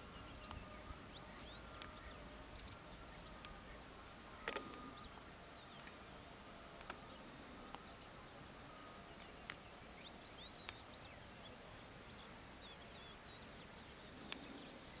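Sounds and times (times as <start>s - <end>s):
lark singing faintly: 0.0s - 15.0s.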